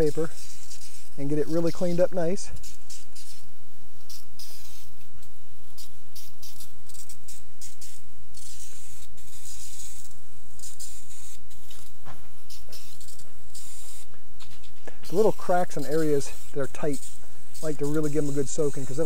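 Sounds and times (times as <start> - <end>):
aerosol can spraying: 0.0 - 19.0.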